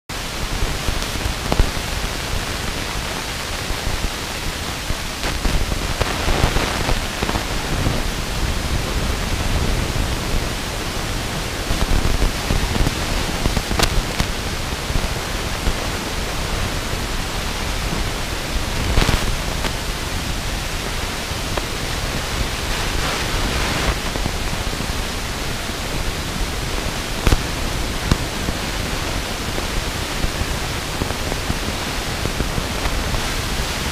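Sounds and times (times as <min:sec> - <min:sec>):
wind buffeting microphone: 0:00.4 - 0:33.9.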